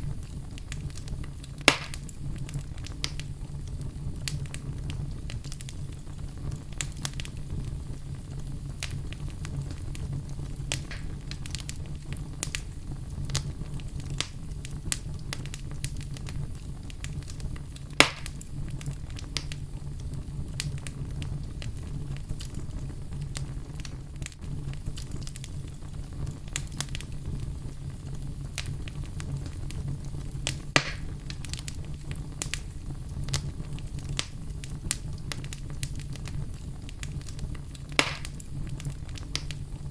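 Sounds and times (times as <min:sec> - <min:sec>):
low rumble of flames: 0:00.0 - 0:39.9
sharp fire pops: 0:00.0 - 0:39.9
wood fire crackling: 0:00.0 - 0:39.9.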